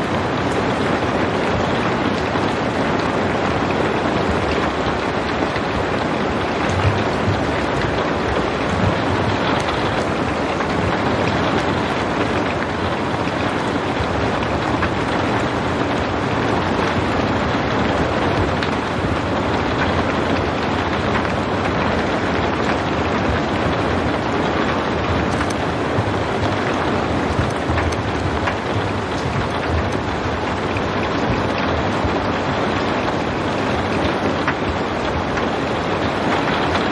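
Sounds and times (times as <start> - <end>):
raindrop ticks: 0.0 - 36.9
steady rain: 0.0 - 36.9.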